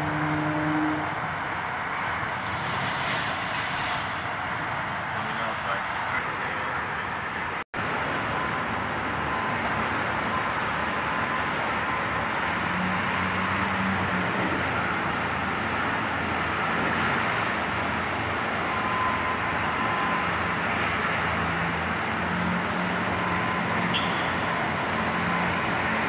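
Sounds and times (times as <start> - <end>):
slow road traffic: 0.0 - 26.0.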